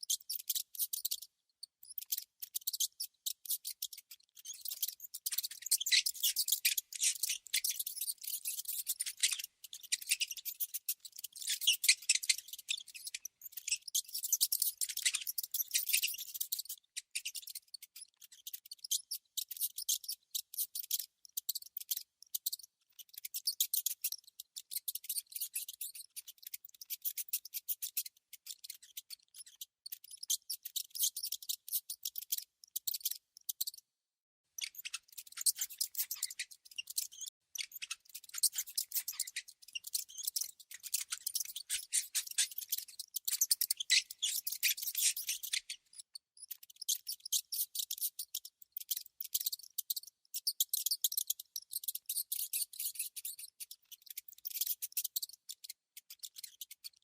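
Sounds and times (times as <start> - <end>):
rodent clicking and chittering: 0.0 - 33.8, 34.6 - 57.0.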